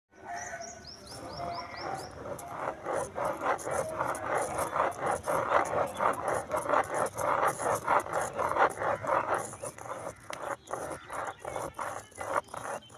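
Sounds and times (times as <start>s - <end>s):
pen scratching on paper: 1.3s - 12.9s.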